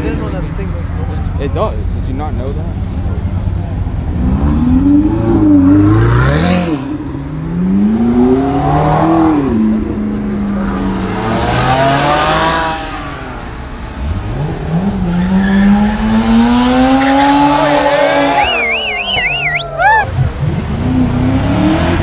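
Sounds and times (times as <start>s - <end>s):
sports car engines accelerating: 0.0s - 22.0s
engine revving: 2.1s - 22.0s.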